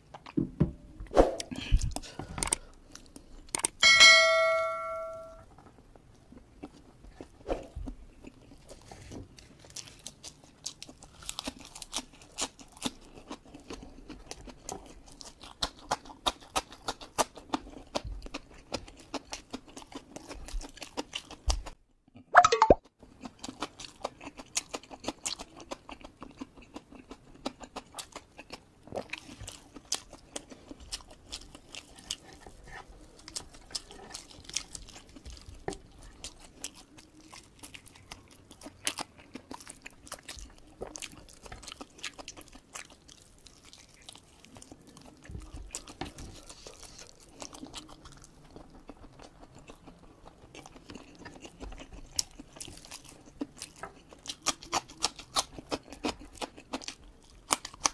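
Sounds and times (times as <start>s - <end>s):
closed-mouth chewing: 6.1s - 57.9s.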